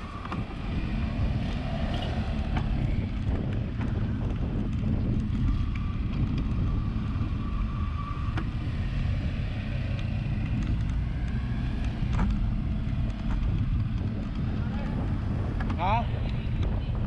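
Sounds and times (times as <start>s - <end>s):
road noise: 0.0s - 17.0s
wind buffeting microphone: 0.0s - 17.0s.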